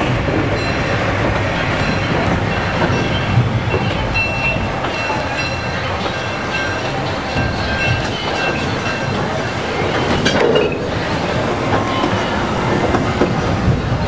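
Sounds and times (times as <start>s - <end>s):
train wheels clattering on rails: 0.0s - 14.0s.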